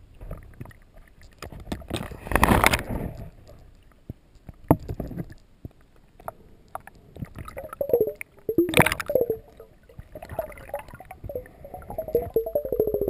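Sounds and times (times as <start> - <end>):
underwater clicks: 0.3 - 13.0.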